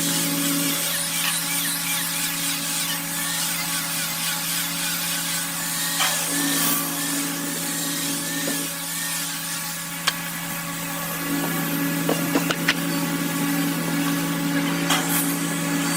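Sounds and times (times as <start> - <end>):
electric power tool running: 0.0 - 15.9.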